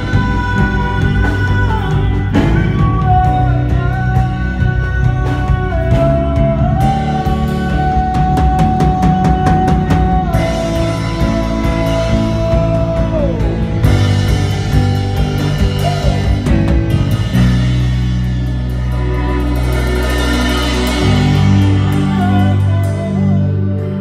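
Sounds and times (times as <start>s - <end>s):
person singing long notes: 0.0s - 17.2s, 18.9s - 24.0s
worship band playing slow song: 0.0s - 24.0s.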